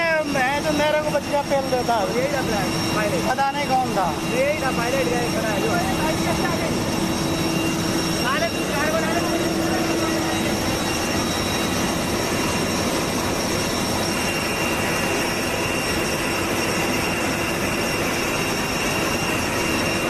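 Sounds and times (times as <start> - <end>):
high whine: 0.0 - 20.0
jet turbine running: 0.0 - 20.0.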